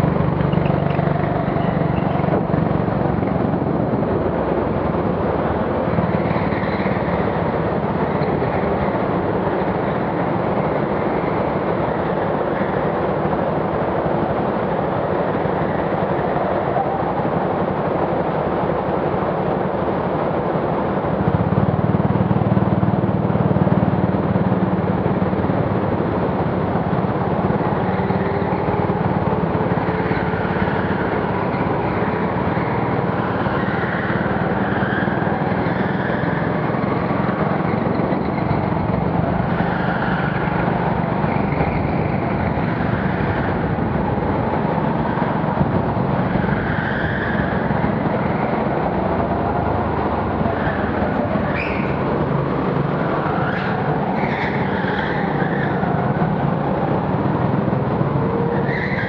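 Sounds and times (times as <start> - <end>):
go-kart engine and tyre noise: 0.0 - 59.0.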